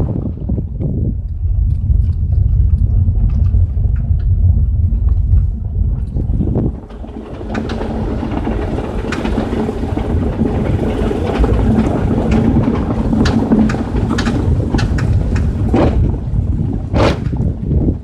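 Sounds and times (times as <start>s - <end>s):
low road rumble: 0.0s - 18.0s
suspension knocking: 0.0s - 18.0s.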